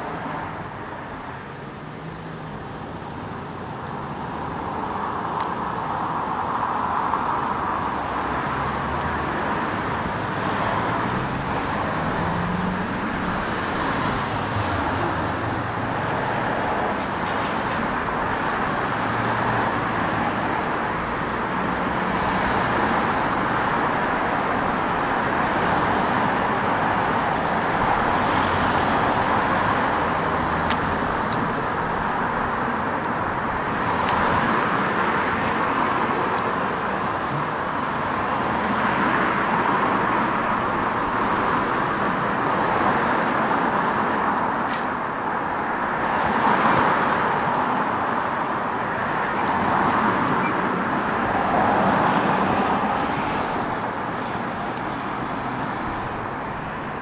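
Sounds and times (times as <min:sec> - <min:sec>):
cars passing: 0:00.0 - 0:57.0
steady traffic hum: 0:00.0 - 0:57.0.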